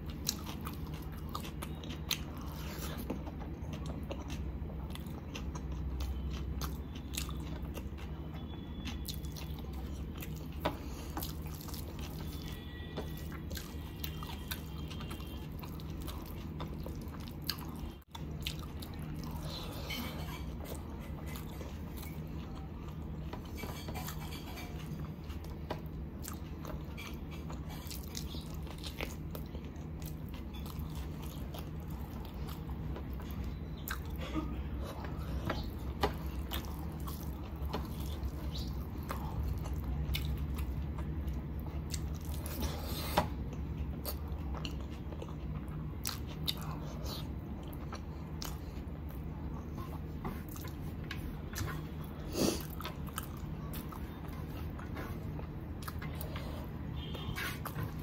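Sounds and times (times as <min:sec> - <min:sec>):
chewing and mouth smacks: 0:00.0 - 0:58.0
steady low hum: 0:00.0 - 0:58.0.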